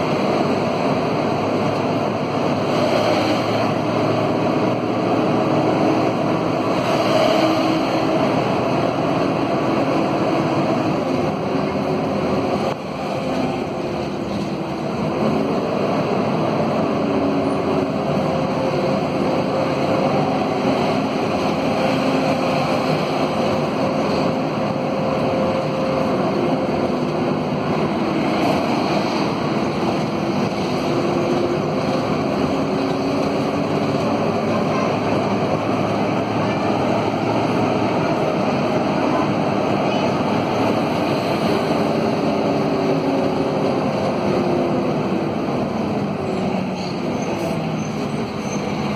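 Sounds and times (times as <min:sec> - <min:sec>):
bus diesel engine running: 0:00.0 - 0:48.9
road noise: 0:00.0 - 0:48.9.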